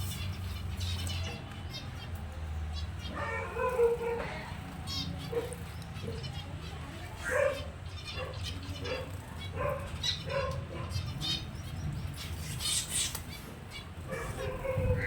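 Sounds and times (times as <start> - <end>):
finches calling: 2.7 - 15.0.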